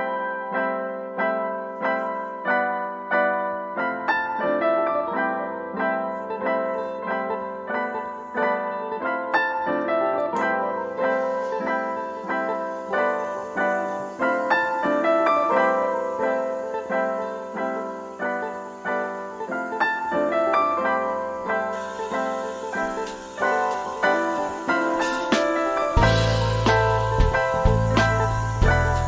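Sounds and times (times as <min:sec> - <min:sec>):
piano melody: 0:00.0 - 0:29.0.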